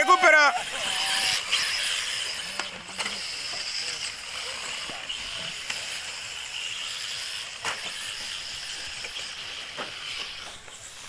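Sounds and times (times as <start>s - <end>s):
rc car motor whine: 0.0s - 11.0s.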